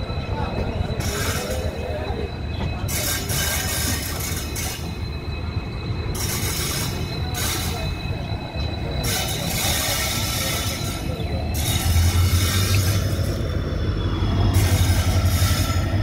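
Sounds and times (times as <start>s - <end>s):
train rumbling: 0.0s - 16.0s
train wheels squealing on rails: 0.0s - 16.0s.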